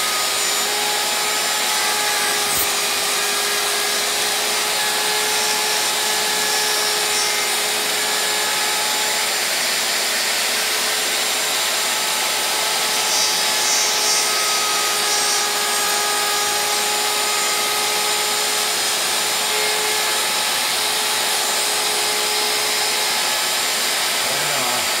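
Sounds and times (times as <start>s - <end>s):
router cutting wood: 0.0s - 25.0s.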